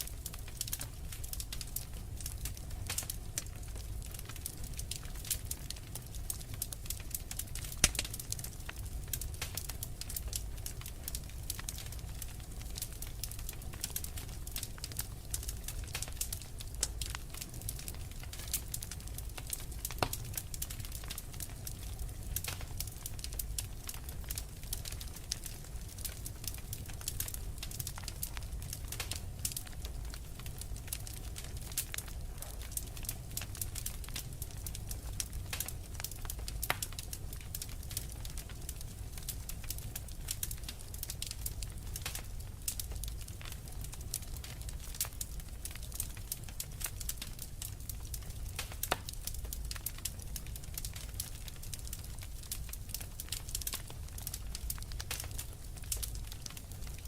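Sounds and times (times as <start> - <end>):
low rumble of burning: 0.0 - 57.0
wood fire popping and snapping: 0.0 - 57.0.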